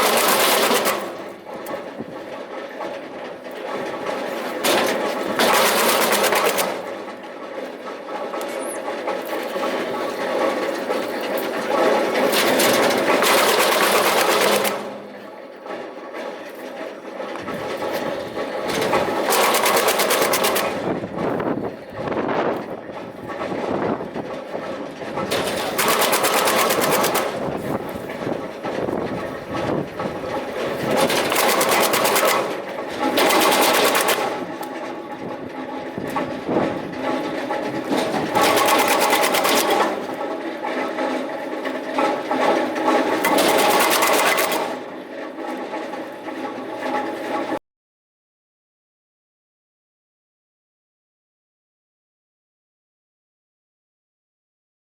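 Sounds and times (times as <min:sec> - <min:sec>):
wood chipper running: 0:00.0 - 0:47.6.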